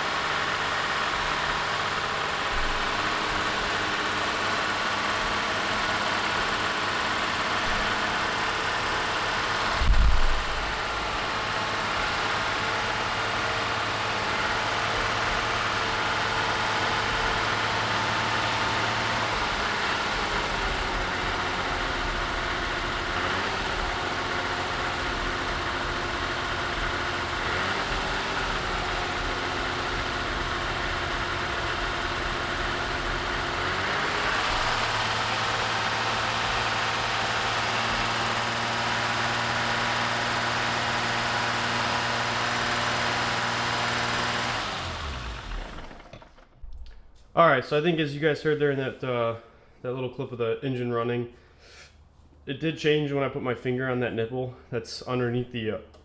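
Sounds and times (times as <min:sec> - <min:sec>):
car engine idling: 0:00.0 - 0:46.6.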